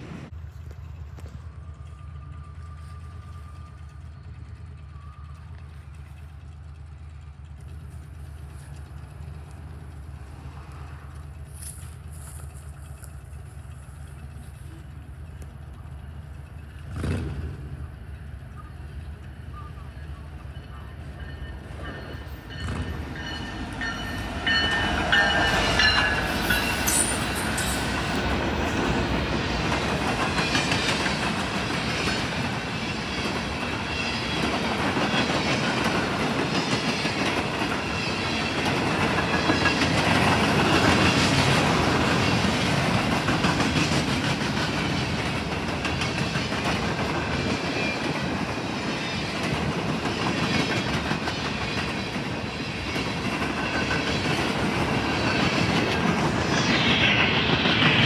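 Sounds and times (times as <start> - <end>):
diesel locomotive passing: 0.0 - 58.0
train wheels clacking on rails: 0.6 - 18.1, 20.4 - 58.0.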